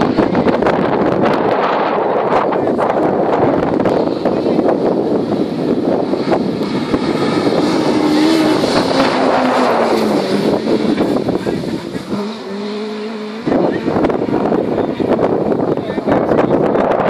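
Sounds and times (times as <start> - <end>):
rally car engine passing: 0.0 - 17.0
wind buffeting microphone: 0.0 - 17.0.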